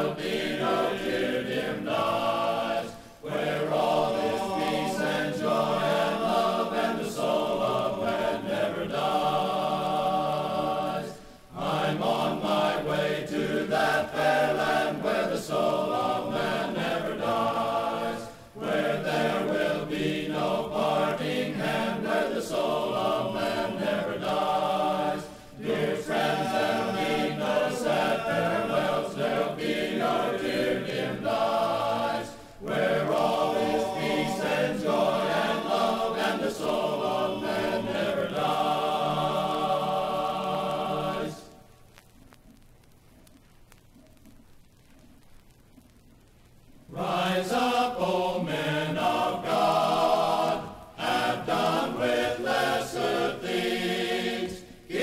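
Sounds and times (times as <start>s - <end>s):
men's chorus singing a hymn: 0.0s - 41.6s, 46.9s - 55.0s.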